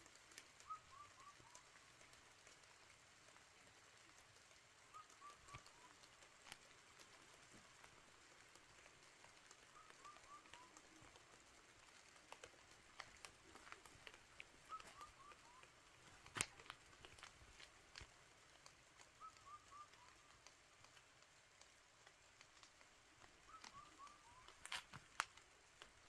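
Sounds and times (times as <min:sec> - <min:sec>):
light rain falling: 0:00.0 - 0:26.0
rain drips and taps: 0:00.0 - 0:26.0.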